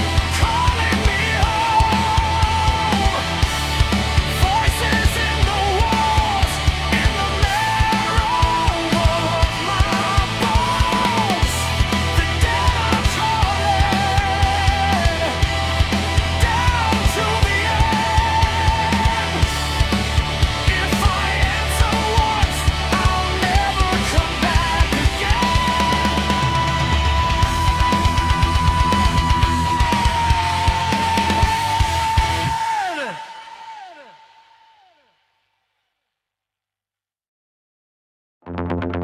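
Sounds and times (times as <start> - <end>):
bass: 0.0 - 33.0
instrumental rock music: 0.0 - 33.3
steady drum beat: 0.0 - 33.7.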